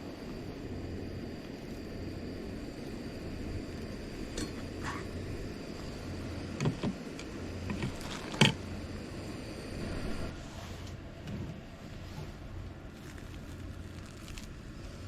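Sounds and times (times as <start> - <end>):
faint high whine: 0.0 - 15.0
low mechanical hum: 0.0 - 15.0.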